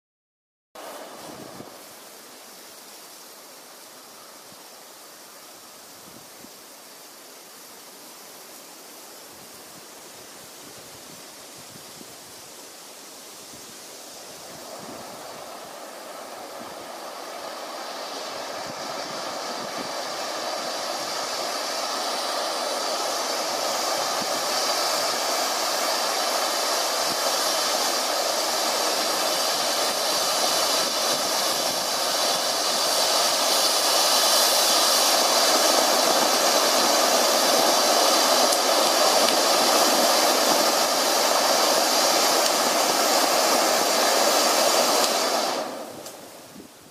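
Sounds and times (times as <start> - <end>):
firework fountain hissing: 0.8 - 46.9.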